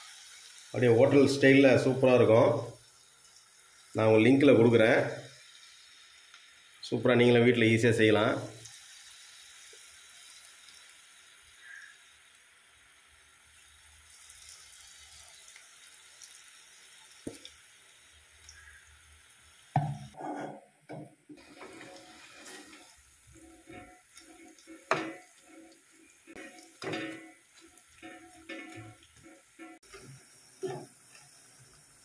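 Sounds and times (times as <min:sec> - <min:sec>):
hot oil sizzling: 0:00.0 - 0:32.0.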